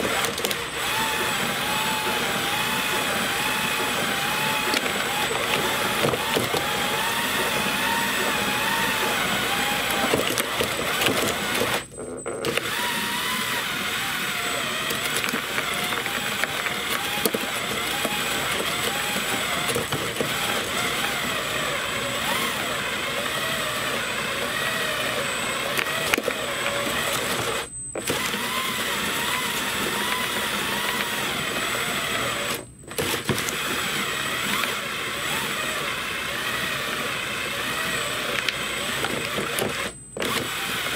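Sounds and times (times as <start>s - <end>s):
electric drill motor whining: 0.0s - 40.9s
plastic cutters grinding scraps: 0.0s - 40.9s.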